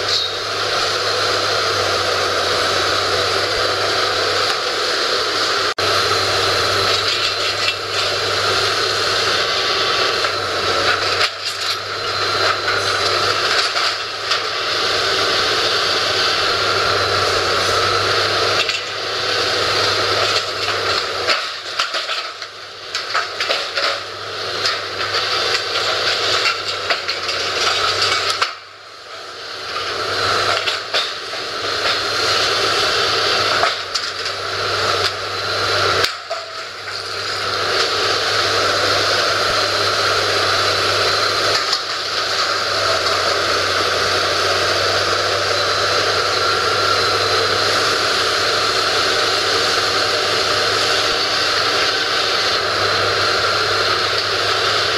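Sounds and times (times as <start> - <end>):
excavator diesel engine and hydraulics: 0.0 - 54.9.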